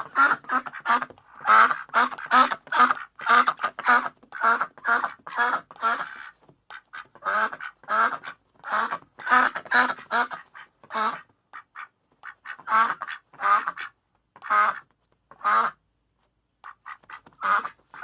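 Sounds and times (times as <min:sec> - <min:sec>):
duck quacking: 0:00.0 - 0:15.8, 0:16.6 - 0:18.0.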